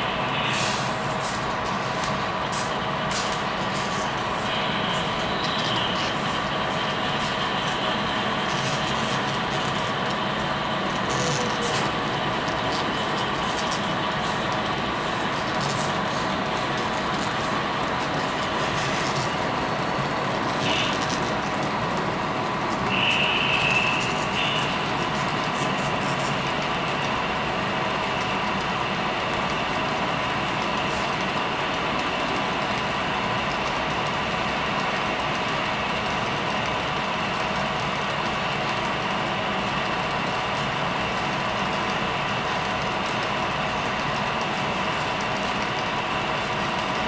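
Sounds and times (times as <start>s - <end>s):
model train wheels on rail: 0.0s - 47.0s.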